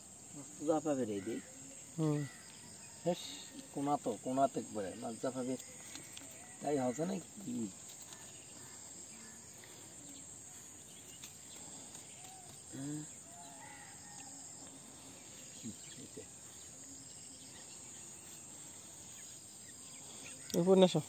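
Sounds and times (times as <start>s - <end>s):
crickets and insects chirping: 0.0s - 21.0s.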